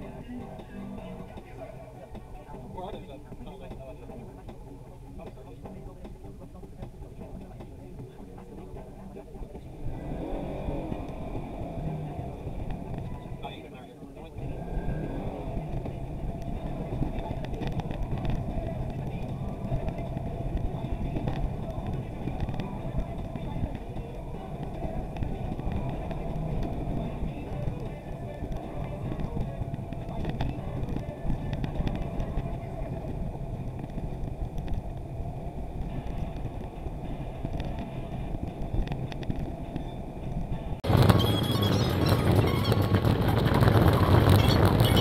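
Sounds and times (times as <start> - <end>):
buggy engine rumble: 0.0 - 45.0.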